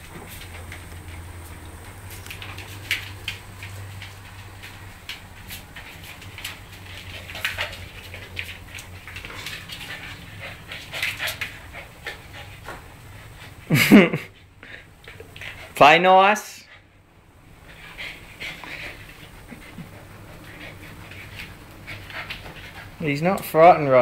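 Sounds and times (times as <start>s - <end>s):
dogs scuffling: 0.0s - 13.6s, 17.4s - 24.0s
low steady hum: 0.0s - 24.0s.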